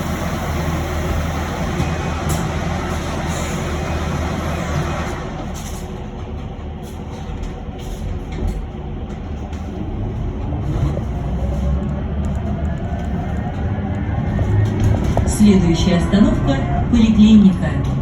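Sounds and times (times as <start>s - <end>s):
tyre and road rumble: 0.0s - 18.0s.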